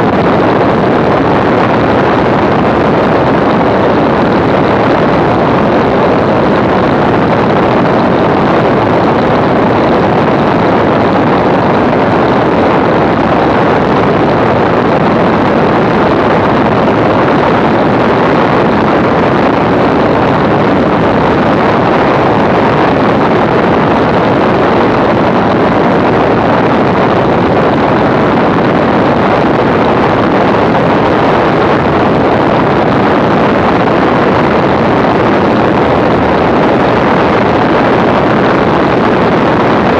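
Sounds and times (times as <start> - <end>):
aircraft engine running: 0.0 - 39.9
wind noise on microphone: 0.0 - 39.9.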